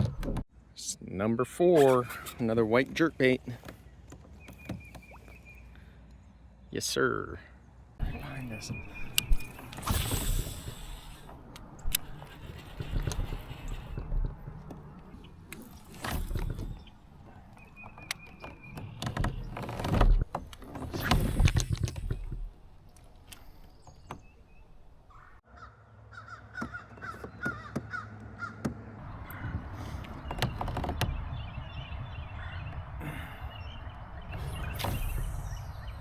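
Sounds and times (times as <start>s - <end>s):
birds calling: 1.9s - 36.0s.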